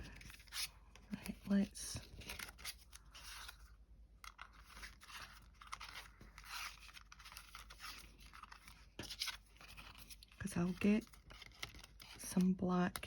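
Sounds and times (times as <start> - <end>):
card stock rustling and scraping: 0.0 - 13.0.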